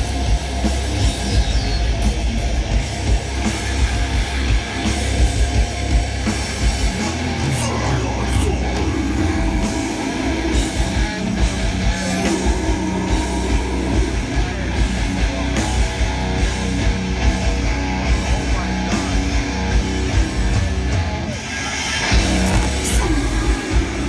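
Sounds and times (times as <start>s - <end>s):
drums hitting: 0.0s - 7.7s, 8.3s - 24.0s
heavy distorted guitars: 0.0s - 24.0s.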